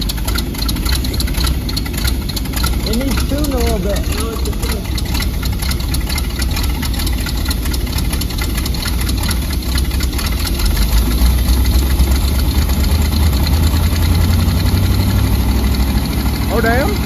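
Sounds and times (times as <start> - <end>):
truck engine idling lopey: 0.0 - 17.0.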